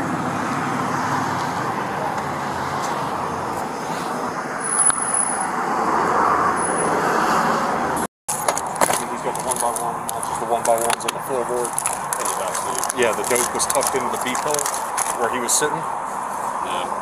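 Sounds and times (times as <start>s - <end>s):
road traffic passing cars: 0.0s - 17.0s.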